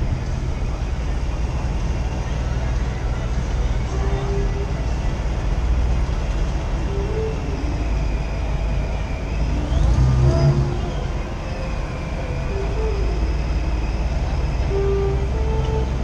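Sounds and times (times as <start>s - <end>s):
car engine and road rumble: 0.0s - 16.0s
faint street sounds: 0.0s - 16.0s.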